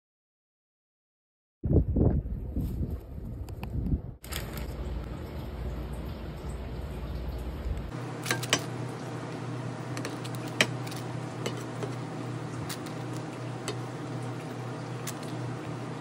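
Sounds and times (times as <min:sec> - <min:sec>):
steady low hum: 0:02.0 - 0:16.0.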